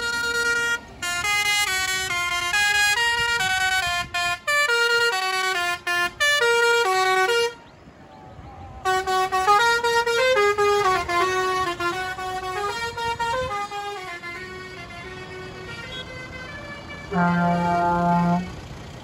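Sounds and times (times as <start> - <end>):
musical horn playing a tune: 0.0 - 7.7, 8.8 - 18.6.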